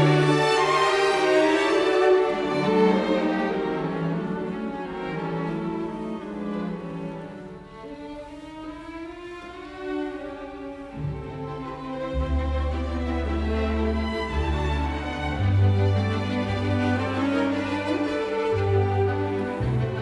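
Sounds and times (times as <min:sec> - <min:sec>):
violin and cello music: 0:00.0 - 0:20.0.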